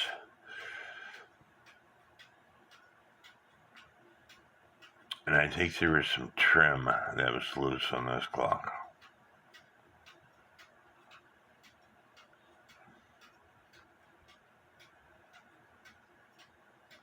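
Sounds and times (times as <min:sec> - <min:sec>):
grandfather clock ticking: 0:00.0 - 0:17.0.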